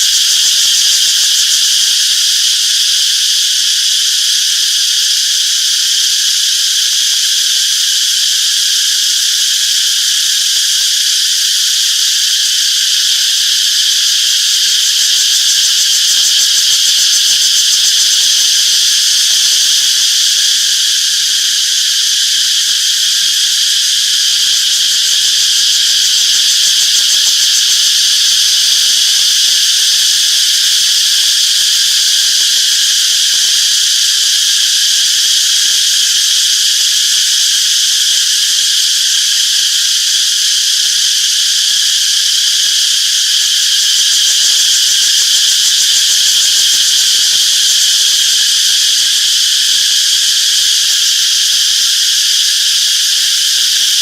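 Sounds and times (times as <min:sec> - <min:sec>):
cicadas buzzing: 0:00.0 - 0:54.0.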